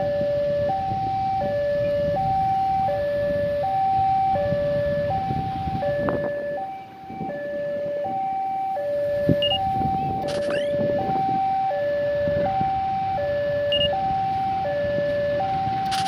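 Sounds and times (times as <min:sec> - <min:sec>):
level crossing alarm: 0:00.0 - 0:16.0
road traffic rumble: 0:00.0 - 0:16.0.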